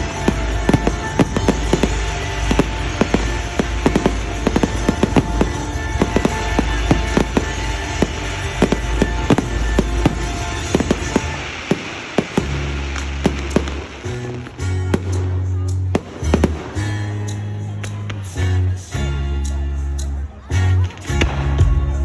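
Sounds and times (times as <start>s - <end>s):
fireworks bangs and crackles: 0.0s - 18.4s
music playing: 0.0s - 22.0s.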